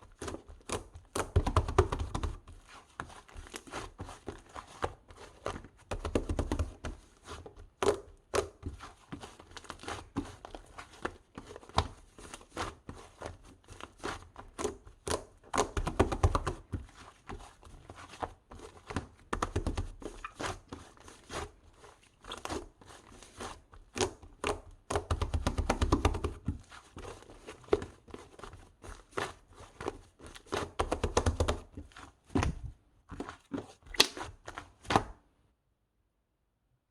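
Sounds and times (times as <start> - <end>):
rustling and crinkling: 0.0 - 35.3.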